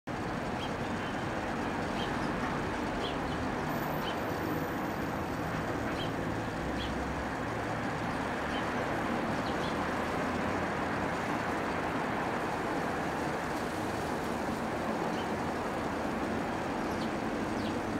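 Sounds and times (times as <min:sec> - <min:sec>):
road traffic rumble: 0:00.1 - 0:17.9.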